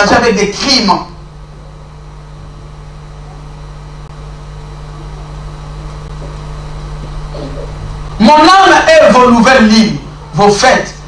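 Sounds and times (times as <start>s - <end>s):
low hum: 0.5s - 10.4s.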